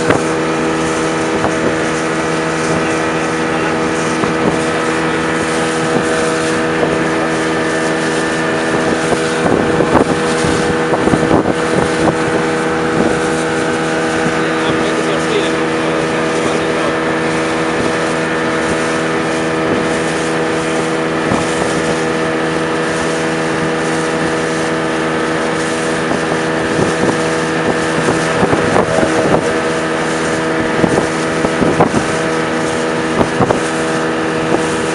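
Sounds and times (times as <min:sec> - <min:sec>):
speedboat engine running: 0:00.0 - 0:34.9
wind and water rushing: 0:00.0 - 0:34.9.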